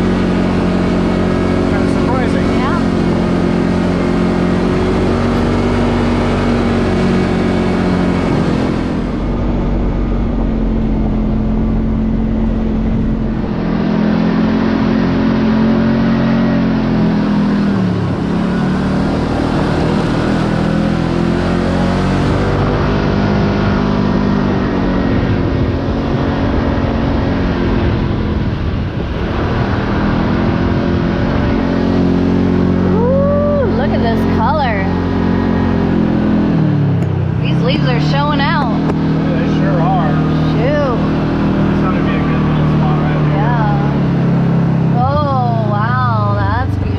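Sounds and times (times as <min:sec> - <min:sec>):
utility vehicle engine running: 0:00.0 - 0:46.9.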